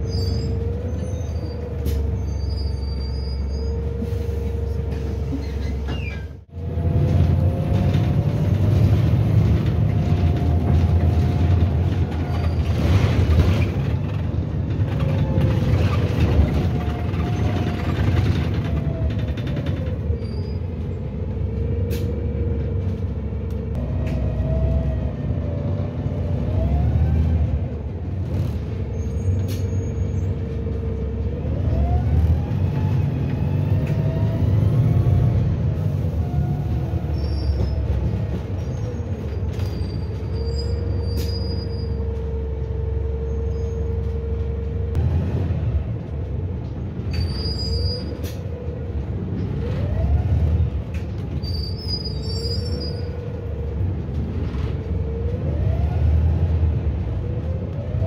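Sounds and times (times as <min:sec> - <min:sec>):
bus engine whine: 0:00.0 - 0:58.0.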